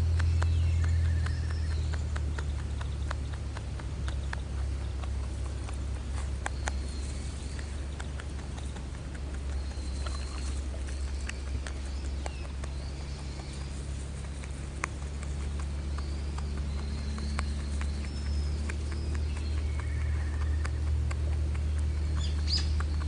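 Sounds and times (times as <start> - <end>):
low steady rumble: 0.0 - 23.0
small birds chirping faintly: 0.0 - 23.0.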